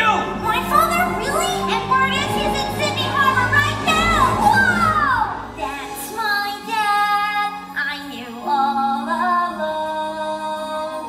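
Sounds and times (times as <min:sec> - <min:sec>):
musical accompaniment: 0:00.0 - 0:11.0
woman singing: 0:00.0 - 0:11.0.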